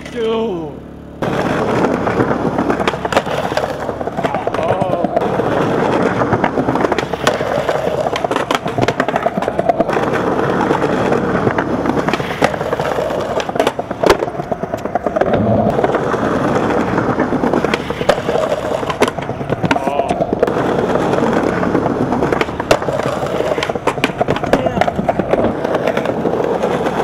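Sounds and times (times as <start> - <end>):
skateboard wheels rolling on concrete: 0.0 - 27.0
skateboard clacks: 1.2 - 27.0.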